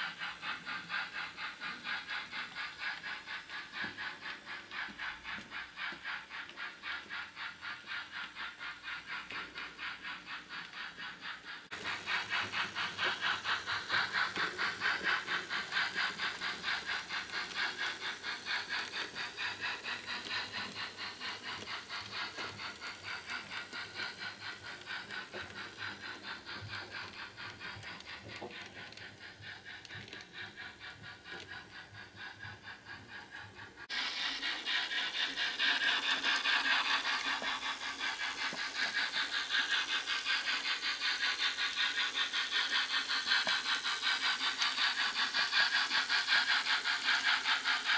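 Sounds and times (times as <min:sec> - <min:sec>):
model steam train chuffing: 0:00.0 - 0:47.9.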